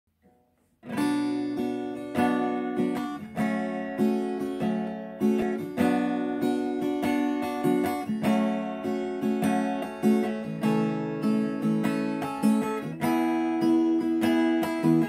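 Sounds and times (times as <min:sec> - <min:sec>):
acoustic guitar strumming chords: 0:00.2 - 0:15.0.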